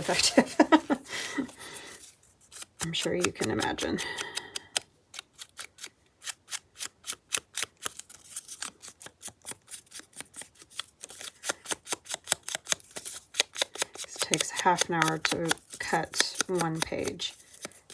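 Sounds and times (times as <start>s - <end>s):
scissors snipping paper: 0.0s - 17.9s.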